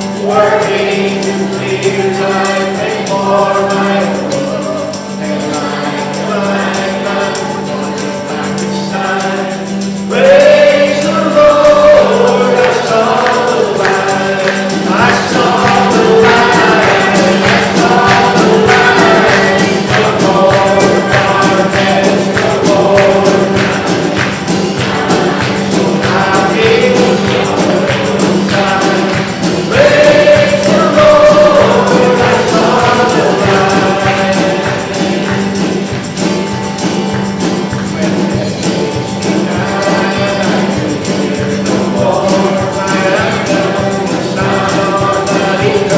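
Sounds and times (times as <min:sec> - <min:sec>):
band with percussive beat: 0:00.0 - 0:45.9
voices singing together: 0:00.0 - 0:45.9.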